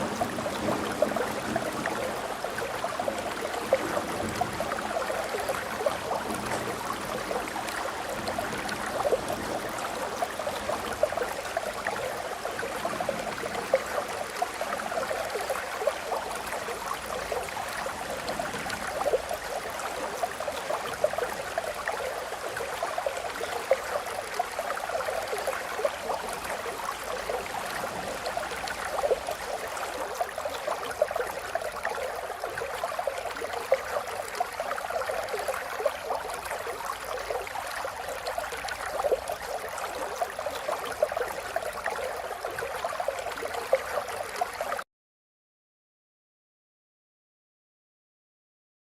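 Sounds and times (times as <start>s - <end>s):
stream babbling: 0.0s - 44.8s.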